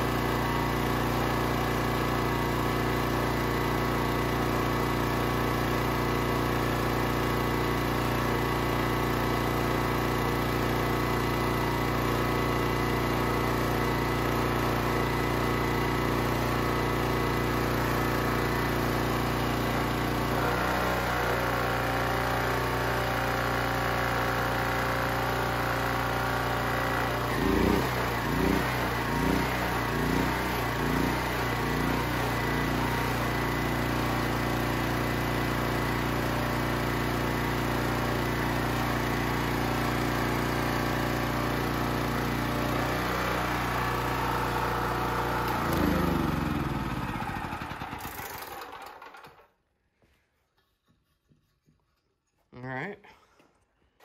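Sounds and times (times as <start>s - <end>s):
generator engine running: 0.0s - 49.4s.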